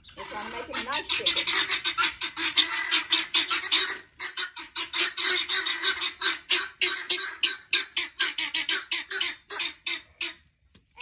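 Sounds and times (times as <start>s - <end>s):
poultry calling harshly: 0.0s - 11.0s.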